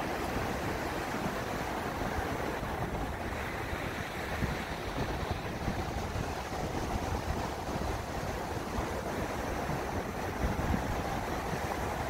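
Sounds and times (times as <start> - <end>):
surf breaking on beach: 0.0 - 12.0
wind rumble on microphone: 0.0 - 12.0.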